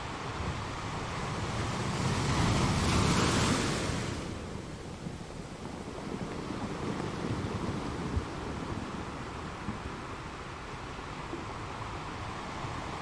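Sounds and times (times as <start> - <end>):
background rush of water: 0.0 - 13.0.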